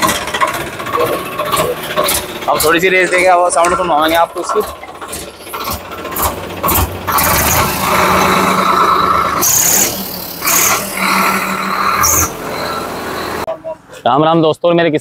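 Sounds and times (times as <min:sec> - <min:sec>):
tractor diesel engine revving: 0:00.0 - 0:13.5.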